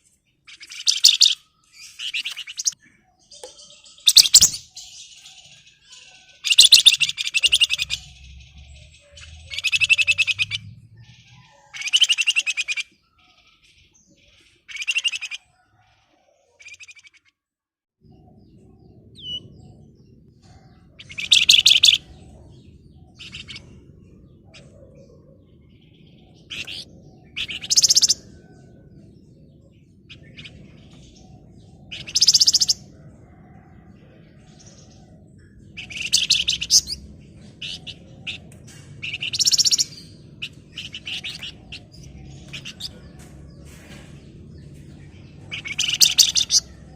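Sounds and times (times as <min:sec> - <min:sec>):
songbird singing in rattling bursts: 0:00.0 - 0:15.6, 0:20.7 - 0:25.2, 0:25.8 - 0:33.0, 0:34.4 - 0:46.9.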